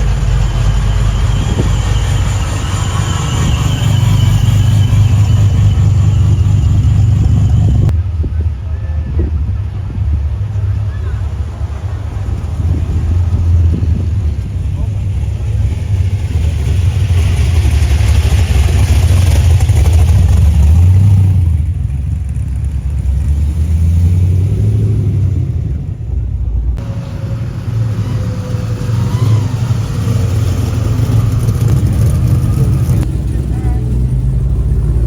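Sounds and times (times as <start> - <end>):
car engine exhaust rumble: 0.0 - 35.0.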